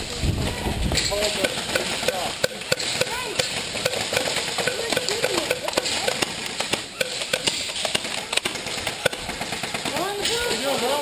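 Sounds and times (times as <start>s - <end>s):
airsoft gunfire: 1.3s - 11.0s.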